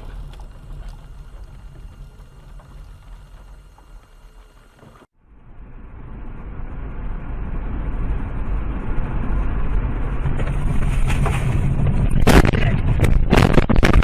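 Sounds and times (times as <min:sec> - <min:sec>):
vehicle driving rumble: 0:00.0 - 0:13.4.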